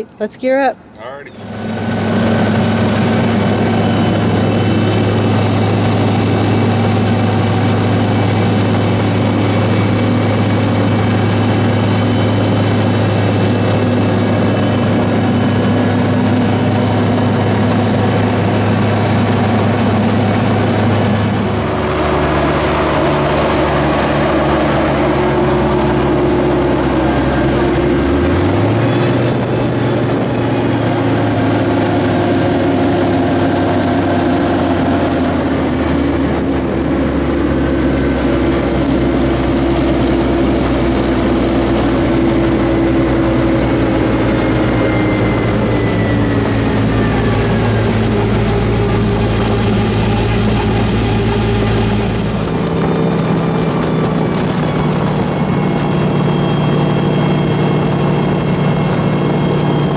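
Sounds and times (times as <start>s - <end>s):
hovercraft engine and propeller: 0.0s - 59.9s.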